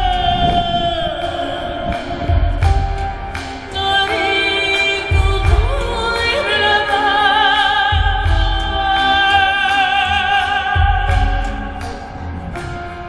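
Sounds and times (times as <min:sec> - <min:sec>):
woman singing operatically: 0:00.0 - 0:12.3
keyboards and strings: 0:00.0 - 0:13.0.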